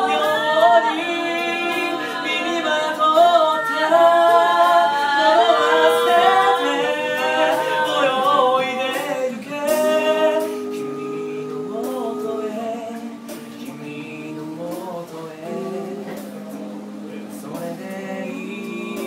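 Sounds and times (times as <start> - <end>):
mixed voices singing a cappella: 0.0 - 19.0.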